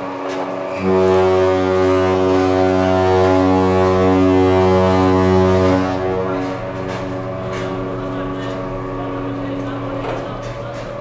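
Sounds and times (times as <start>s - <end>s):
ship horn blast: 0.0s - 11.0s.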